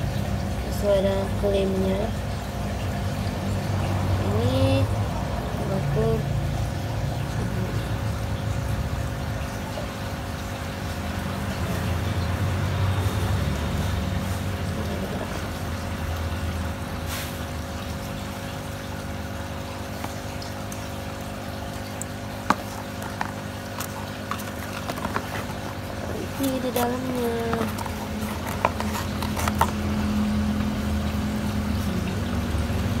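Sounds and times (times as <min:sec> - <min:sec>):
aquarium water trickling: 0:00.0 - 0:33.0.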